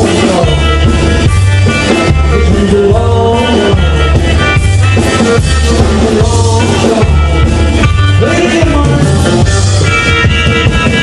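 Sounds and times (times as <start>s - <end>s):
drums: 0.0s - 11.0s
electric and acoustic guitars: 0.0s - 11.0s
man singing: 0.0s - 11.0s
upright bass: 0.0s - 11.0s.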